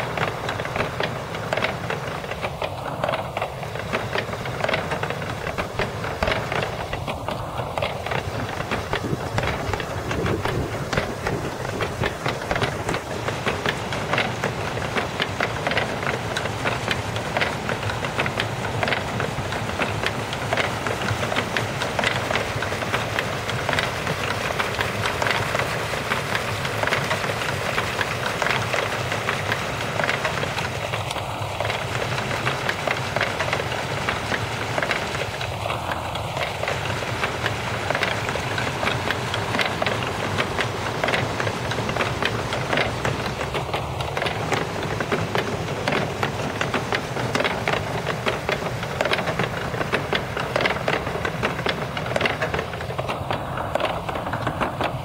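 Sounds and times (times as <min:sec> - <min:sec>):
wooden sticks clattering on drums: 0:00.0 - 0:55.0.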